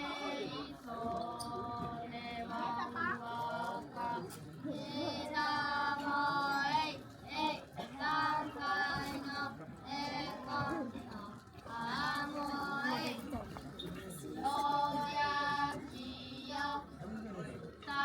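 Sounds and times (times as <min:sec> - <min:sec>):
voices singing slow melody: 0:00.0 - 0:13.4, 0:14.3 - 0:17.0.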